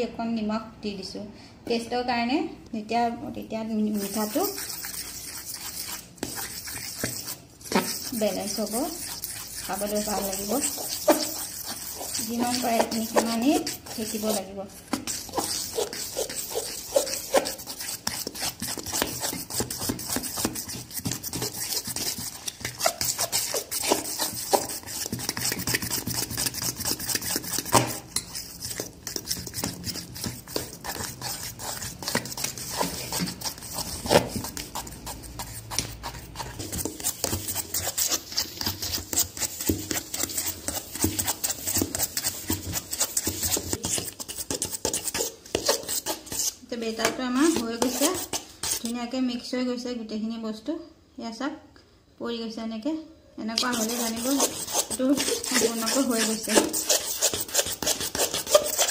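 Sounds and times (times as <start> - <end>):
utensil scraping steel bowl: 3.7 - 49.0, 53.6 - 58.9.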